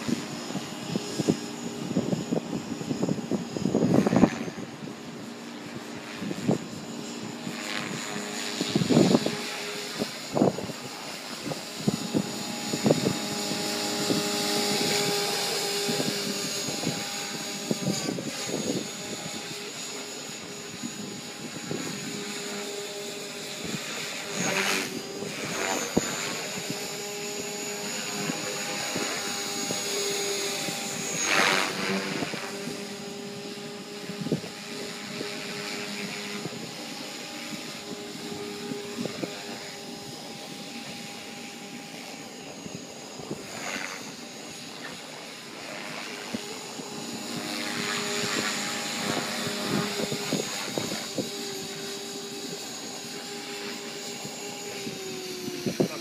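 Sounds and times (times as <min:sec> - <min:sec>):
electric motor high whine: 0:00.0 - 0:56.0
rotor blades humming: 0:00.0 - 0:56.0.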